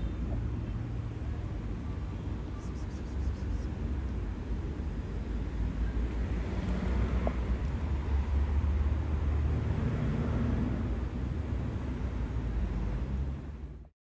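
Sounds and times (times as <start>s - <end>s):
low city background rumble: 0.0s - 13.9s.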